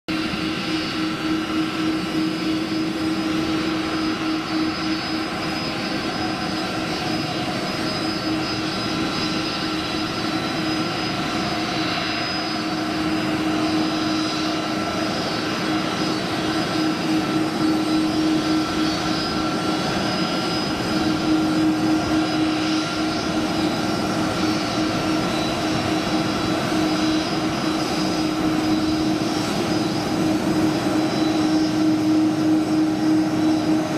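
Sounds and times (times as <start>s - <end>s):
jet engine whine and hum: 0.1s - 33.9s.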